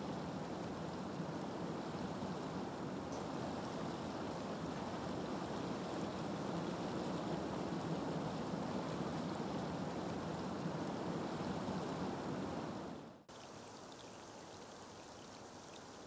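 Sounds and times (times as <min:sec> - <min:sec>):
rain on still water: 0:00.0 - 0:16.0.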